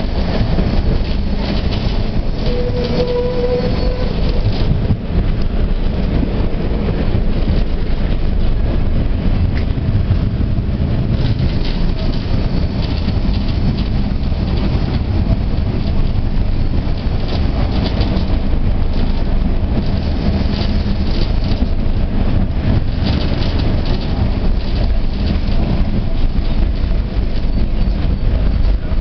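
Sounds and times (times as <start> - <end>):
tram wheels and motors rumbling: 0.0 - 29.0.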